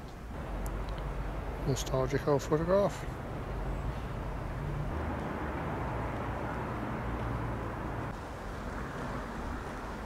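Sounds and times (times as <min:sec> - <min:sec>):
low town background rumble: 0:00.0 - 0:10.0.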